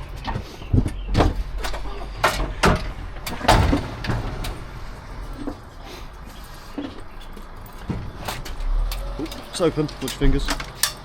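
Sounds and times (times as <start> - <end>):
knocks and clunks: 0.0 - 11.0.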